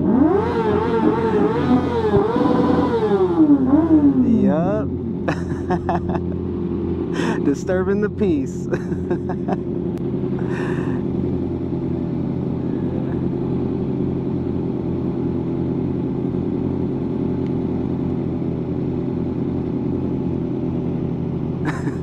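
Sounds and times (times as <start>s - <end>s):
motorcycle engines idling: 0.0s - 22.0s.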